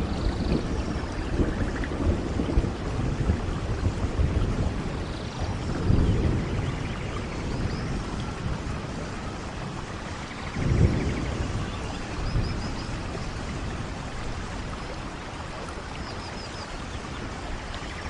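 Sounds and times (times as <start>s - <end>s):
rolling thunder rumbles: 0.0s - 18.0s
steady rainfall: 0.0s - 18.0s.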